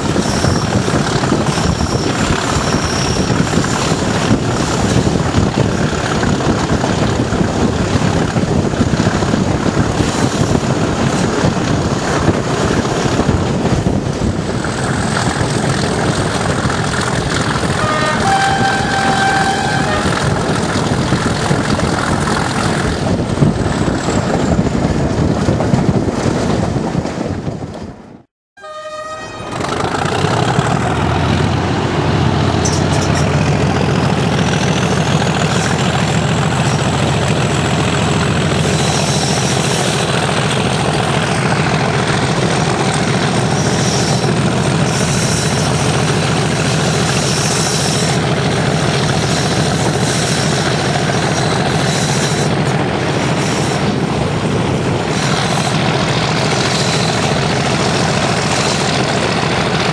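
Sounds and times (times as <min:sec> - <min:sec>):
diesel locomotive engine under load: 0:00.0 - 0:59.9
train running on track: 0:00.0 - 0:59.9.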